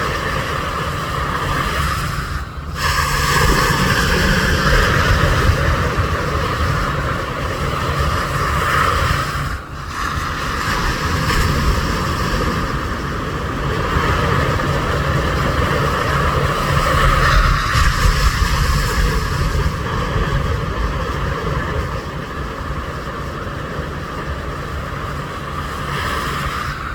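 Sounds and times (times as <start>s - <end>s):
sea waves at the shore: 0.0s - 26.9s
wind buffeting microphone: 0.0s - 26.9s.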